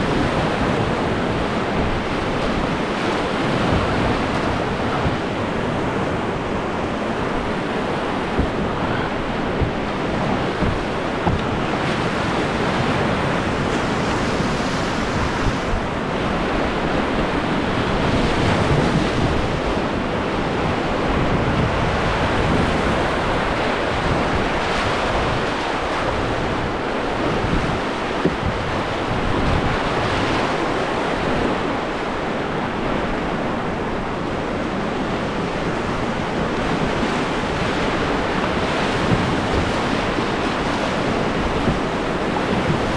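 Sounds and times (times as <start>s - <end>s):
rushing whitewater: 0.0s - 42.9s
wind on the microphone: 0.0s - 42.9s.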